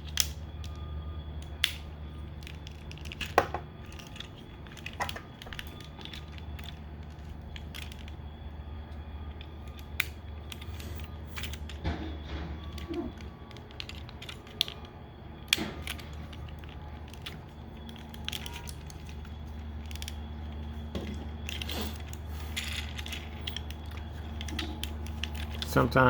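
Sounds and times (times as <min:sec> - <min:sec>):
plastic toy parts clicking: 0:00.0 - 0:00.8, 0:01.4 - 0:08.2, 0:09.3 - 0:10.8, 0:12.6 - 0:14.9, 0:15.5 - 0:25.9
steady low hum: 0:00.0 - 0:26.0.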